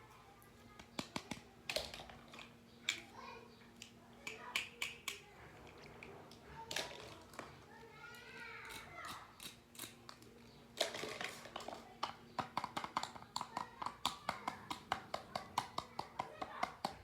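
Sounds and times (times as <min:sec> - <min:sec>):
plastic pieces clicking and tapping: 0:00.7 - 0:03.1, 0:03.8 - 0:07.6, 0:08.7 - 0:17.0.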